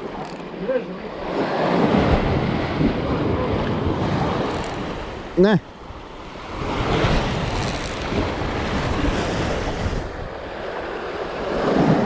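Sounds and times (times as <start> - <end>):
waves breaking on rocks: 0.0 - 12.0
wind buffeting microphone: 1.1 - 12.0.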